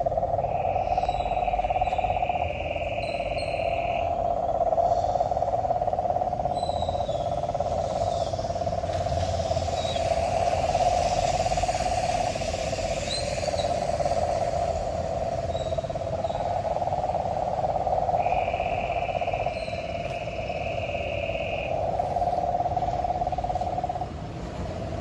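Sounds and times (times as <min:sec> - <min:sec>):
high steady insect buzz: 0:00.0 - 0:24.7
frogs and insects trilling: 0:00.0 - 0:25.0.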